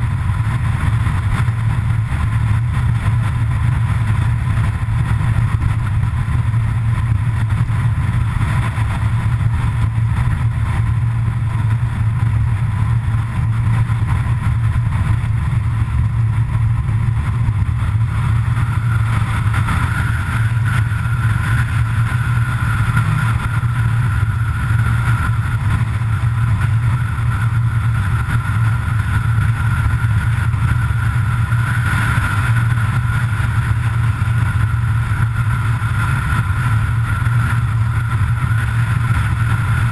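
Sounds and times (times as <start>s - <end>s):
engine and road drone: 0.0s - 39.9s
thin steady whine: 0.0s - 39.9s.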